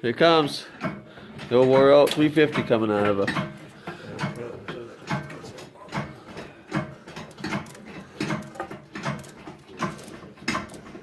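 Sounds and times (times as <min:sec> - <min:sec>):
hand-pumped hydraulic hoist clanking: 0:00.6 - 0:11.0.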